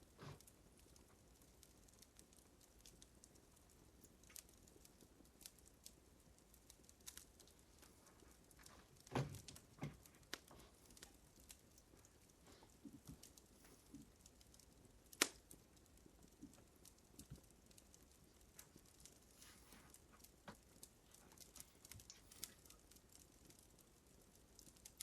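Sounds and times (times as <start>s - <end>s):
fire crackling faintly: 0.0s - 25.0s.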